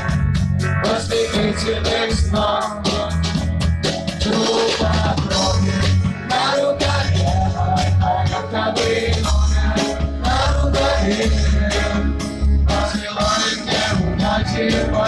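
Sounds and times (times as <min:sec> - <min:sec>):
drum beat: 0:00.0 - 0:15.0
heavy bass line: 0:00.0 - 0:15.0
rock band playing: 0:00.0 - 0:15.0.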